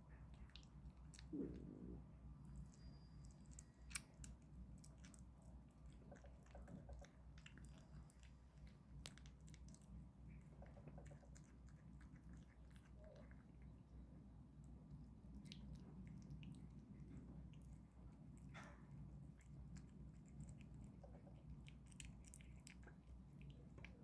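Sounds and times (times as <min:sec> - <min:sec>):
kitten chewing: 0:00.0 - 0:24.0.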